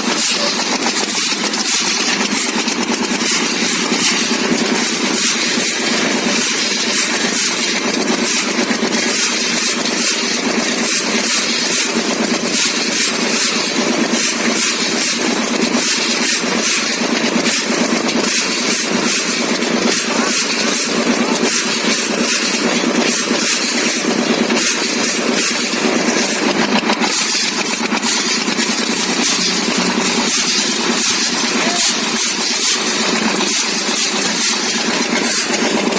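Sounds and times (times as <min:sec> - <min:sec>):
small motor pulsing: 0:00.0 - 0:35.9.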